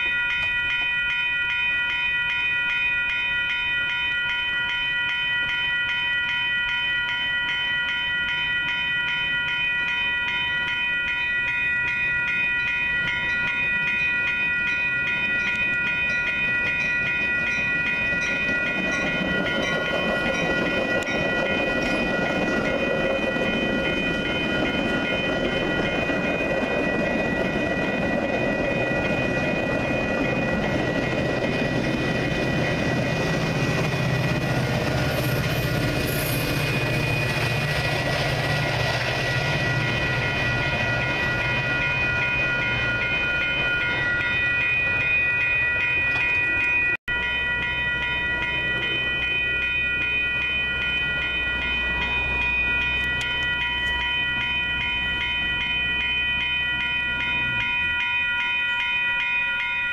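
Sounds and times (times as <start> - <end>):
crossing warning bells ringing: 0.0 - 59.9
train wheels rumbling on rails: 7.5 - 59.2.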